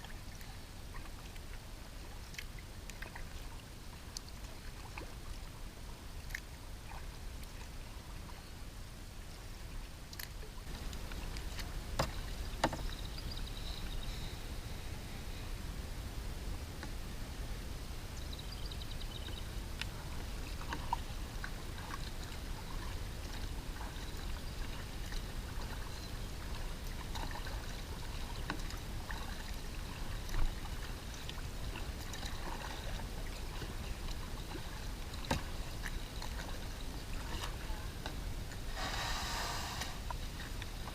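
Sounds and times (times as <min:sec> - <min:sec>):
paddle splashing water: 0:00.0 - 0:08.4, 0:09.2 - 0:14.9, 0:19.1 - 0:40.9.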